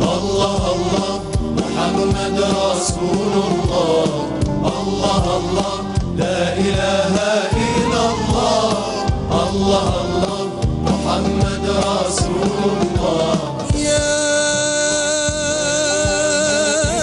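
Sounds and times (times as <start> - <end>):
band playing a steady beat: 0.0 - 17.0
male choir singing a religious chant: 0.0 - 17.0.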